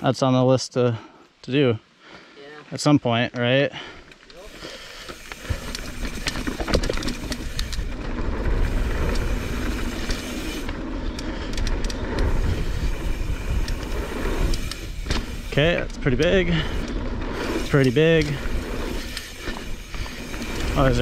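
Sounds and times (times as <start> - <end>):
bike tyres on dirt and rocks: 2.0 - 21.0
bike rattling and clicking: 4.0 - 21.0.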